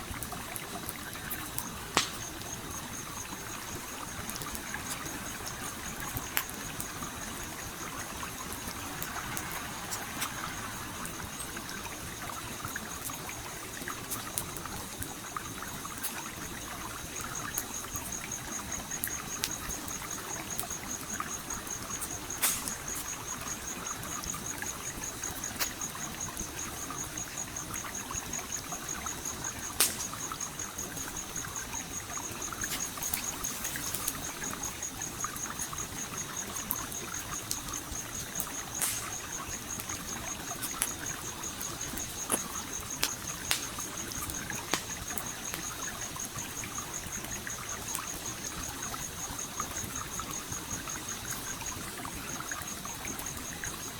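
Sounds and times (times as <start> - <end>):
campfire wood crackling: 0.0 - 53.9
stream flowing: 0.1 - 53.9.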